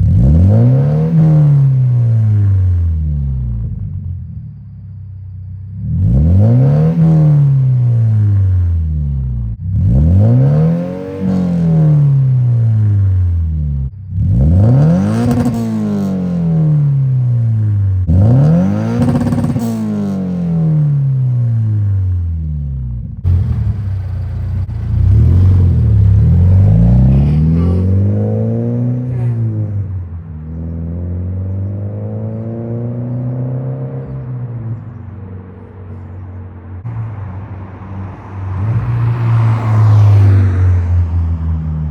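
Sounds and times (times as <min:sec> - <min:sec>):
car engine revving: 0:00.0 - 0:03.8, 0:05.8 - 0:09.0, 0:09.6 - 0:22.4, 0:23.0 - 0:35.0, 0:38.1 - 0:40.9.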